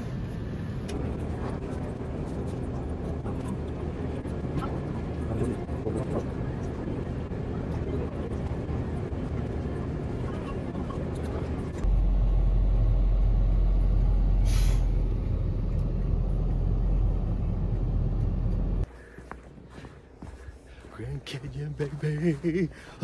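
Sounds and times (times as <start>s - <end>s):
vehicle rumbling: 0.0s - 23.0s.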